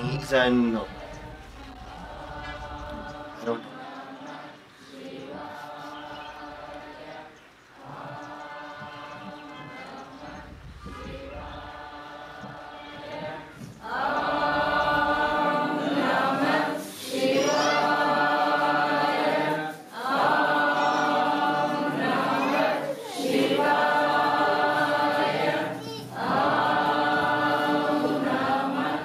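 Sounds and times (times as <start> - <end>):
group singing a devotional chant: 0.0 - 29.0.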